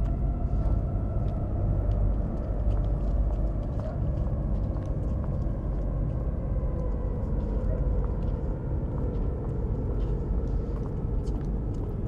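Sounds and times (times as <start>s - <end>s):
low rumble of street ambience: 0.0s - 12.0s.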